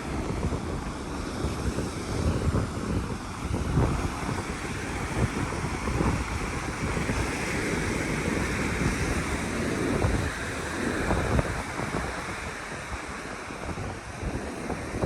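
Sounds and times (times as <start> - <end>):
ocean surf washing onto beach: 0.0 - 15.0
wind gusting on microphone: 0.0 - 15.0.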